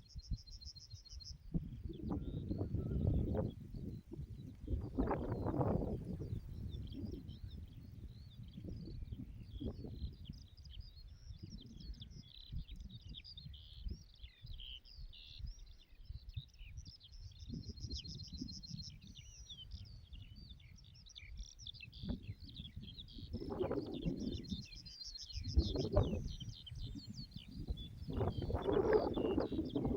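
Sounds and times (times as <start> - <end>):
small birds chirping and singing: 0.0 - 29.9
wind rumble on microphone: 0.0 - 29.9.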